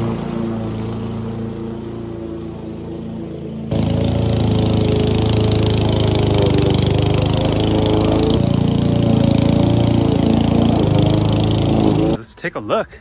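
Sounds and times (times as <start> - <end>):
lawn mower engine cutting grass: 0.0 - 12.2.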